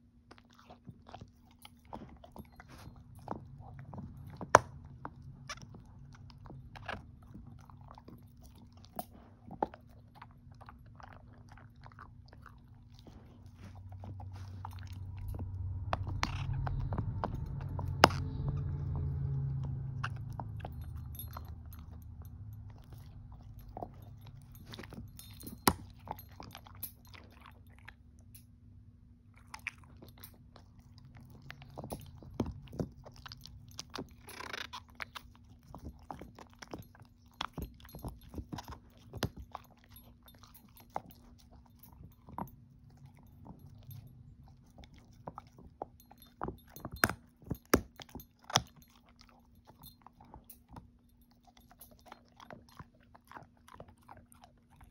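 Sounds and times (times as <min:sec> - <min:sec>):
dog gnawing a chew: 0:00.0 - 0:28.6, 0:29.2 - 0:54.9.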